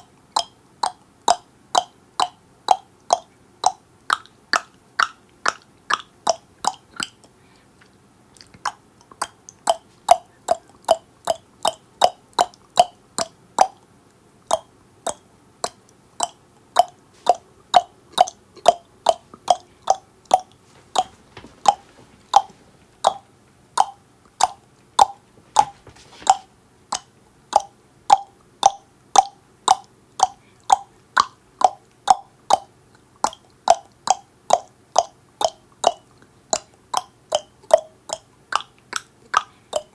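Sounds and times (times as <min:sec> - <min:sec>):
tongue clicking: 0:00.1 - 0:39.9.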